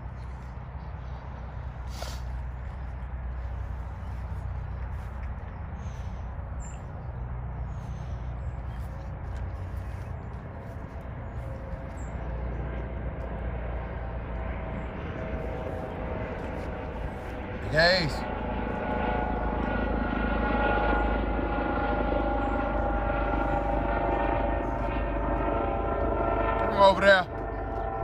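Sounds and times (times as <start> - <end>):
faint hum: 0.0 - 28.0
low outdoor rumble: 0.0 - 28.0.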